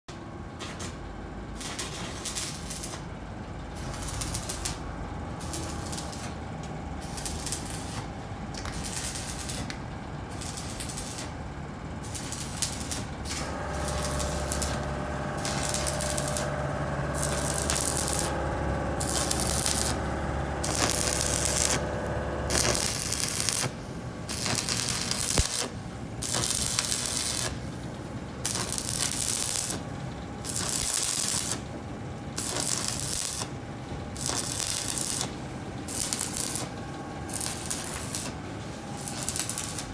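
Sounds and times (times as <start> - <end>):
arc welding crackling hiss: 1.6 - 3.1, 3.8 - 6.4, 7.0 - 11.4, 12.0 - 27.6, 28.4 - 31.6, 32.4 - 39.9
steady machine hum: 3.1 - 30.6, 31.6 - 39.9.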